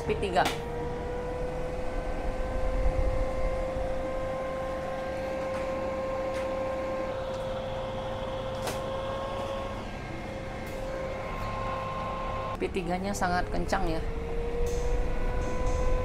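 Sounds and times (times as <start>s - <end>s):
cooker hood fan humming: 0.0s - 16.0s.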